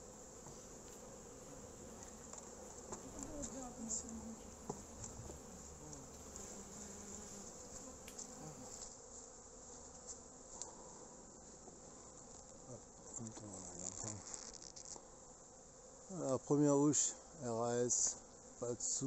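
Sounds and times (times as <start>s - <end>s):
single bee flying past: 0.0s - 16.2s
honeybees buzzing: 0.0s - 19.0s.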